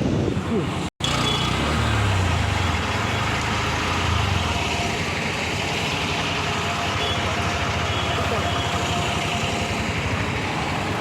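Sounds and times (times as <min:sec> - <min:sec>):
road traffic noise: 0:00.0 - 0:11.0
vehicle engine rumble: 0:00.0 - 0:11.0.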